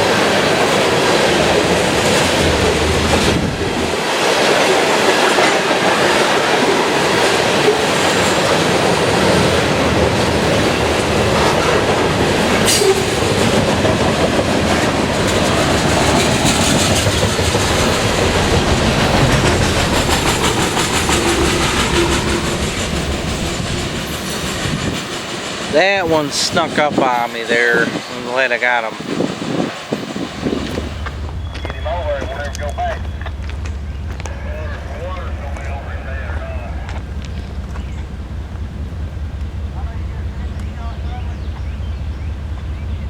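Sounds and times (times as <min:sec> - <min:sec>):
train wheels clattering on rails: 0:00.0 - 0:43.0.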